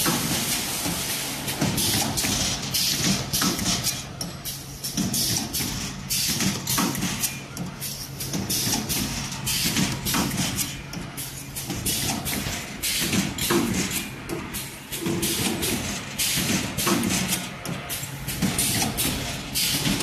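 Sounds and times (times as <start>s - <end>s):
pneumatic hisses and clacks: 0.0s - 20.0s.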